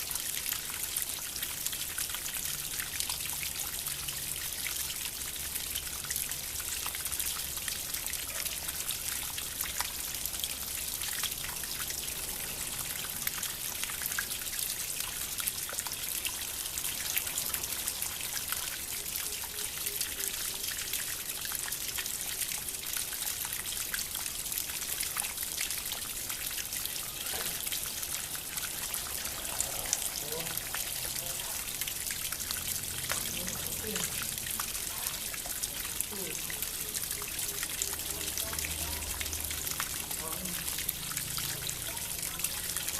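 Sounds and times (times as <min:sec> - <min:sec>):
water fountain trickling: 0:00.0 - 0:42.9.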